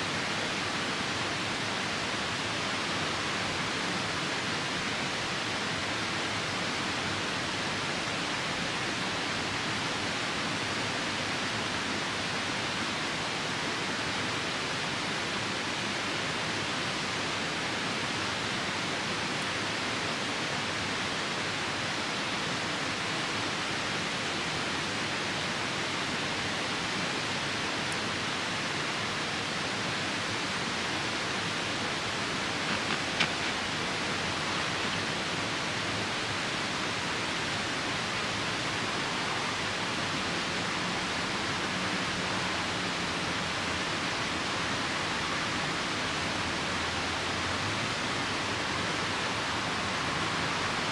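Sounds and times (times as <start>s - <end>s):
falling rain: 0.0s - 50.9s
river rushing: 0.0s - 50.9s.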